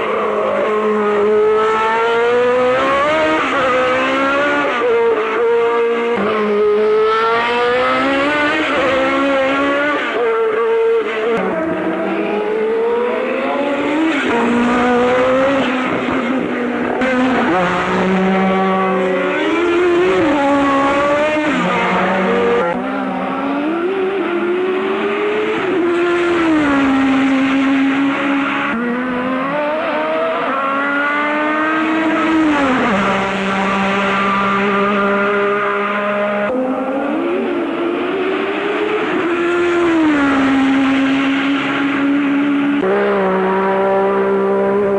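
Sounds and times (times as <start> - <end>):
racing car engine at high revs: 0.0 - 44.9.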